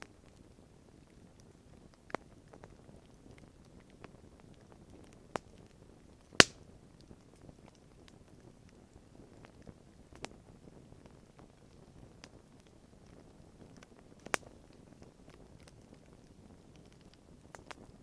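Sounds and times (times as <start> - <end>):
campfire crackling and popping: 0.1 - 18.0.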